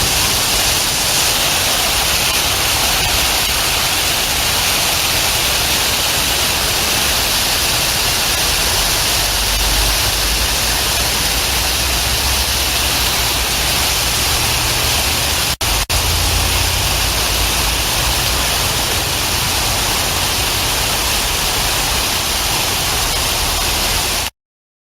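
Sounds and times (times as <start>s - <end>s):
steady rain: 0.0s - 24.3s.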